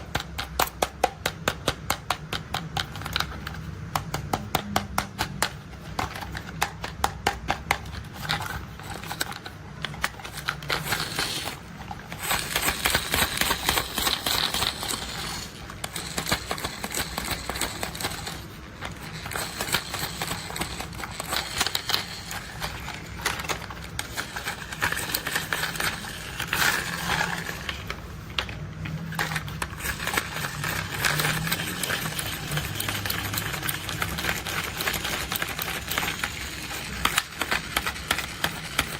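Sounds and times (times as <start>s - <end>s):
plastic toy vehicles clicking: 0.0s - 38.9s.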